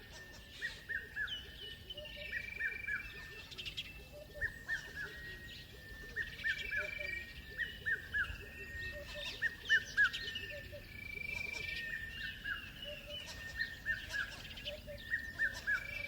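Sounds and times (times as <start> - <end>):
birds whistling and trilling: 0.0 - 16.0.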